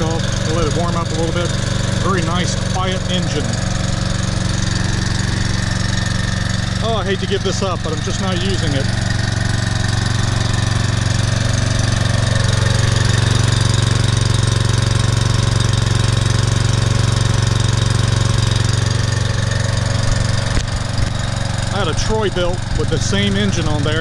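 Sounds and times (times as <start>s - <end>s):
lawn mower engine running: 0.0s - 24.0s.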